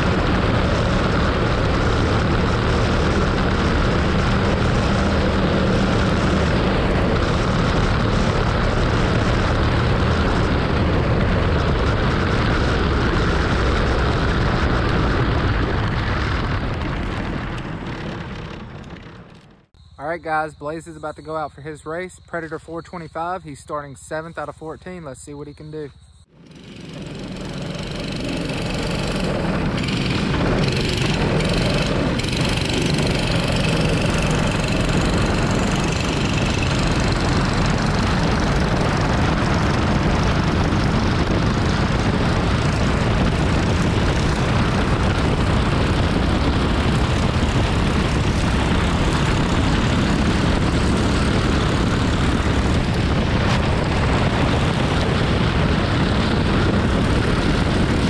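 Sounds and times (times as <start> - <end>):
kart engine running hard: 0.0 - 19.6, 26.3 - 58.0
other karts nearby: 0.0 - 19.6, 26.3 - 58.0.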